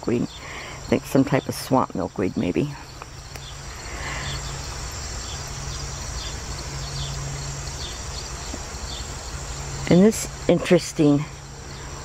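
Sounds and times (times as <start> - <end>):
crickets trilling: 0.0 - 12.0
steady low hum: 0.0 - 12.0
short insect chirps: 0.1 - 12.0.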